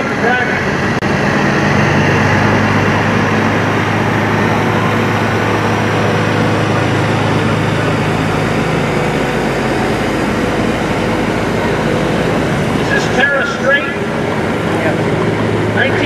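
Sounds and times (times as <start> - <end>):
tractor engine driving past: 0.0 - 16.0.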